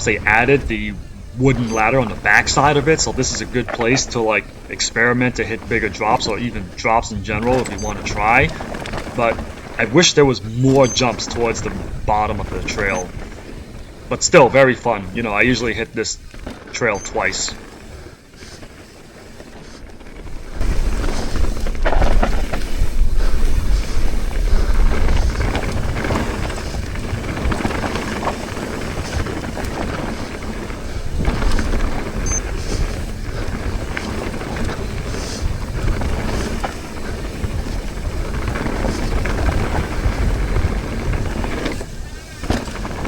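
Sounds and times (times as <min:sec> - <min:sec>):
wind rushing over microphone: 0:00.0 - 0:18.1, 0:20.2 - 0:43.0
bike tyre noise and rattles: 0:00.0 - 0:43.0.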